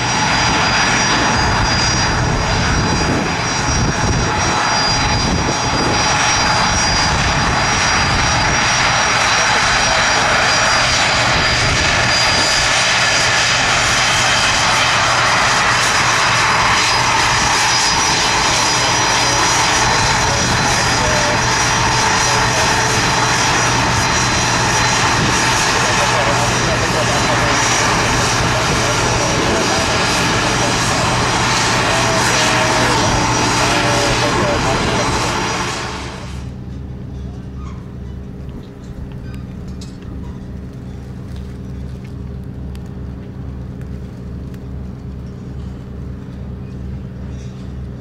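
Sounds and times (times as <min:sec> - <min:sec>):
jet engine whine: 0:00.0 - 0:48.0.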